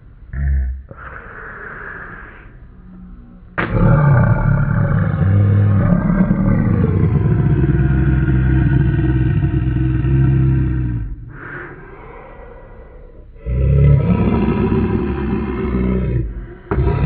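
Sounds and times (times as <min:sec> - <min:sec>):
low rough monster growl: 0:02.0 - 0:17.0.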